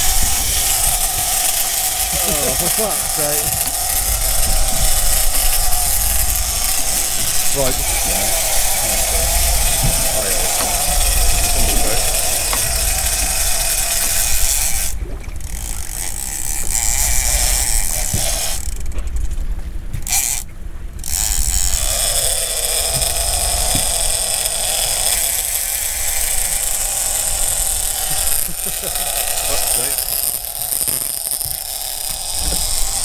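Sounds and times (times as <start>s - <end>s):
fishing reel drag buzzing: 0.0s - 19.4s, 20.0s - 33.0s.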